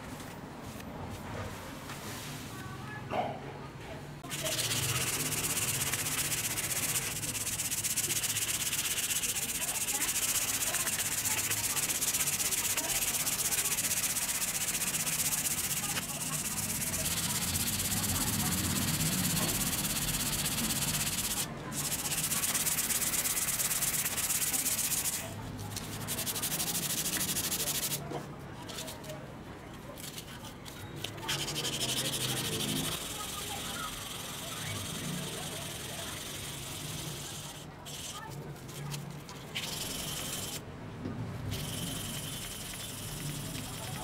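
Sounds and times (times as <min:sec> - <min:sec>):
sandpaper scratching on metal: 0:04.2 - 0:28.0, 0:30.0 - 0:40.6, 0:41.5 - 0:44.0.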